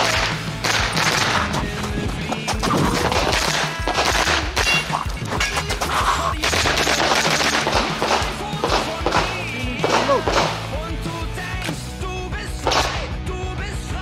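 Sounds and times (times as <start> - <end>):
rapid gunshots: 0.0 - 11.0, 12.6 - 13.2
background music: 0.0 - 14.0.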